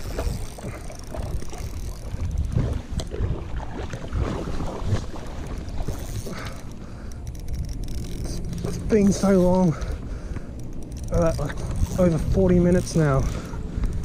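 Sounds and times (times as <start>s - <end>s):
small waves lapping: 0.0s - 14.0s
wind buffeting microphone: 0.0s - 14.0s.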